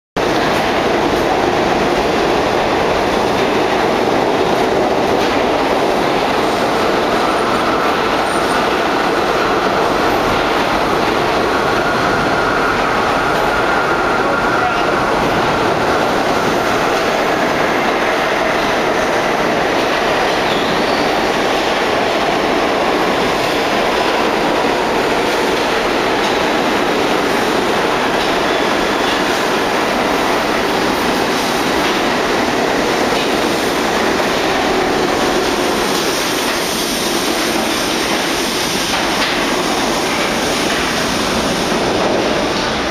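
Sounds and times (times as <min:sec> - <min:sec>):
subway train wheels on track: 0:00.2 - 0:42.9.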